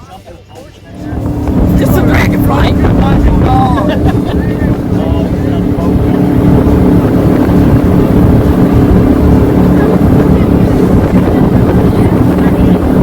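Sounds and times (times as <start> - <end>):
engine running steadily: 0.0 - 13.0
wind buffeting microphone: 0.9 - 13.0.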